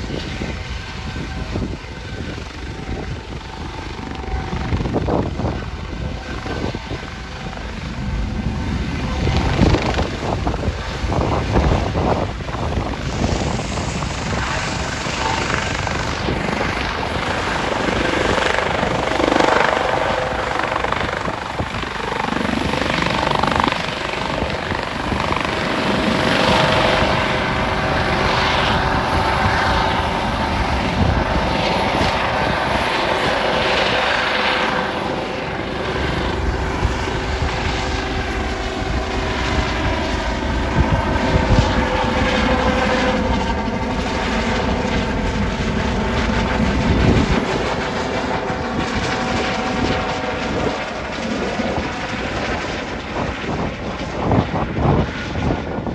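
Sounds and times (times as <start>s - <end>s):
helicopter rotor and turbines: 0.0s - 55.9s
turbine whine: 0.0s - 55.9s.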